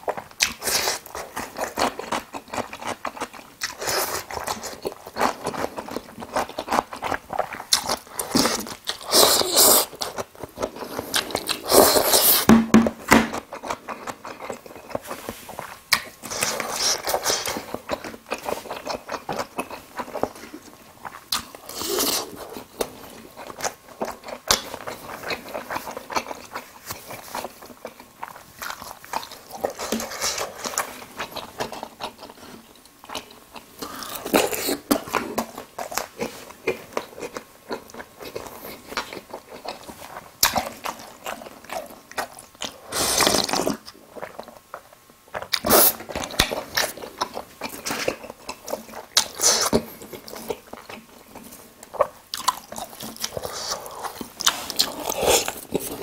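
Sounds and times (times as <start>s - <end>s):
crunchy chewing: 0.0s - 12.5s, 13.2s - 56.0s.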